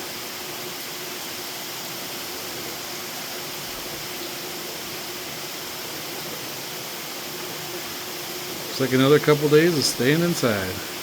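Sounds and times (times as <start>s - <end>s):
faint steady hum: 0.0s - 11.0s
steady rain falling: 0.0s - 11.0s.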